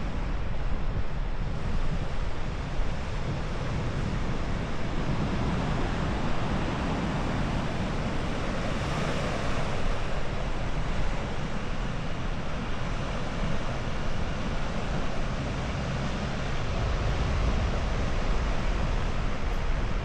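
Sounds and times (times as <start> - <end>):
wind rushing across microphone: 0.0 - 20.0.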